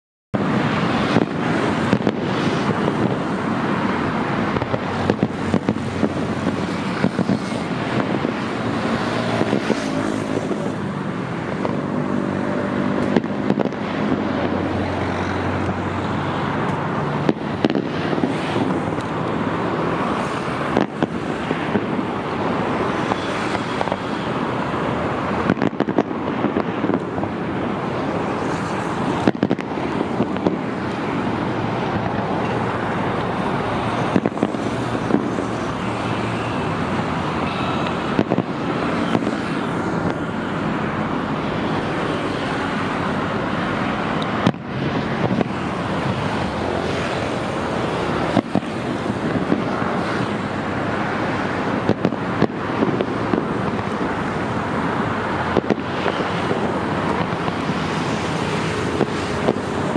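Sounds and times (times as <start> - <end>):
fireworks bangs: 0.4 - 59.9
fireworks crackling: 0.4 - 59.9.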